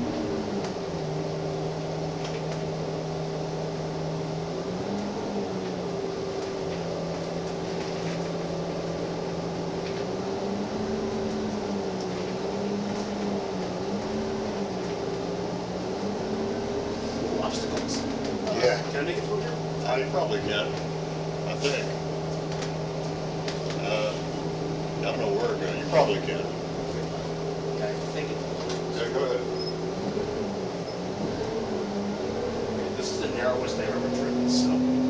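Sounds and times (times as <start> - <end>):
bus diesel engine droning: 0.0 - 35.0.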